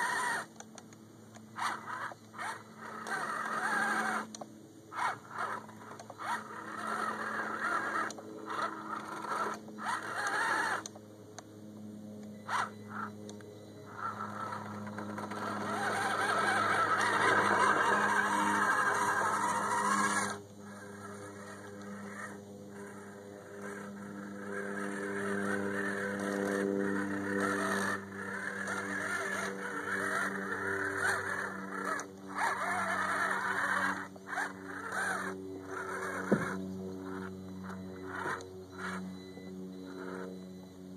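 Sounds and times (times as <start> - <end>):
wheels spinning in wet mud: 0.0 - 0.6, 1.6 - 4.3, 4.9 - 10.8, 13.9 - 40.3
electric motor whining and revving: 0.0 - 11.1, 11.7 - 40.9.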